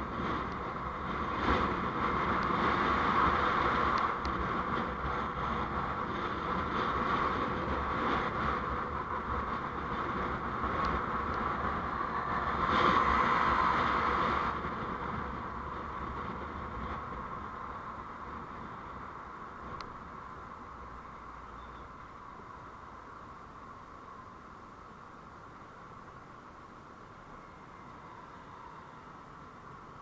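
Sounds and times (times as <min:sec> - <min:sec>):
road and traffic noise: 0:00.0 - 0:30.0.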